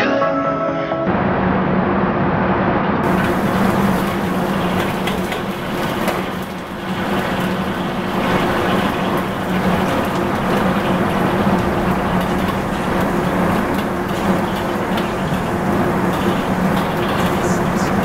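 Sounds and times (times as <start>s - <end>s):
gas wok range roaring: 1.2s - 18.0s
kitchen ventilation hum: 3.0s - 18.0s.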